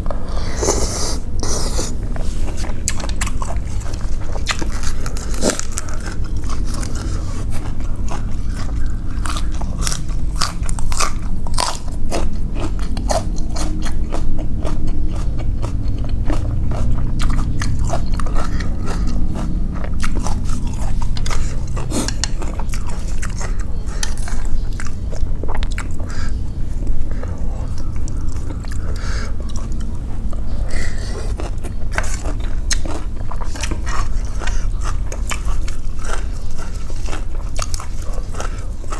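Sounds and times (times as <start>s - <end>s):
mouth clicks and crunches: 0.0s - 38.9s
steady low hum: 0.0s - 38.9s
wet chewing: 0.0s - 38.9s.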